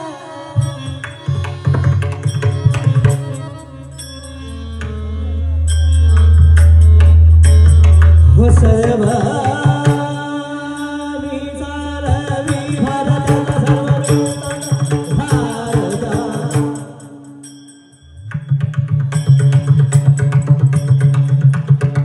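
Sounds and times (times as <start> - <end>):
pakhawaj drum strokes: 0.0 - 22.0.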